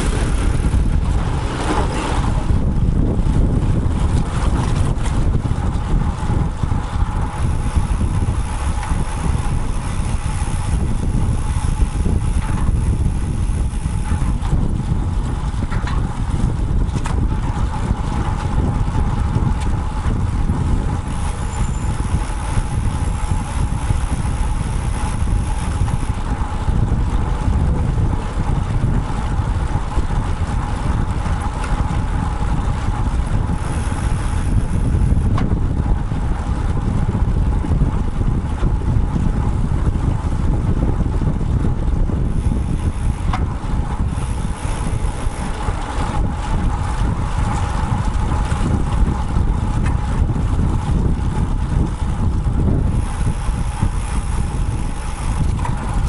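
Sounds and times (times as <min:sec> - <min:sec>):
road and traffic noise: 0:00.0 - 0:56.0
wind buffeting microphone: 0:00.0 - 0:56.0.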